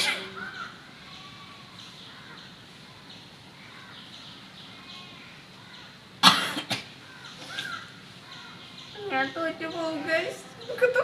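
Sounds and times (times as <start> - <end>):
faint bird calls: 0.0 - 11.0.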